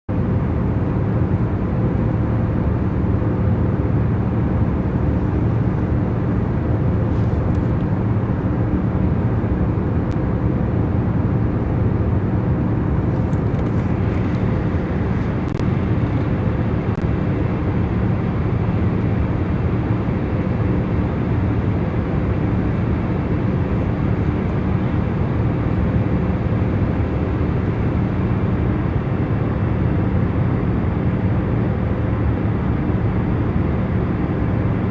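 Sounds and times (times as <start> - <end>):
airplane cabin engine and airflow noise: 0.1 - 34.9
constant low hum: 0.1 - 34.9.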